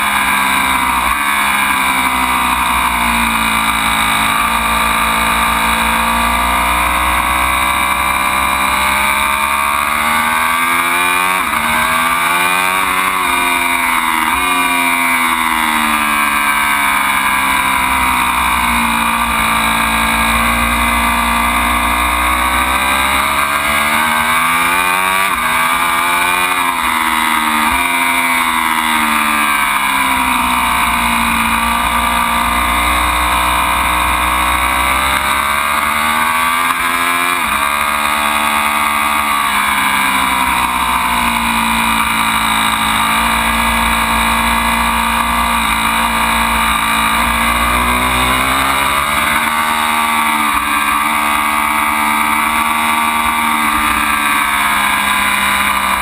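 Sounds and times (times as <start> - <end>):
motorcycle engine revving at racing pace: 0.0 - 56.0.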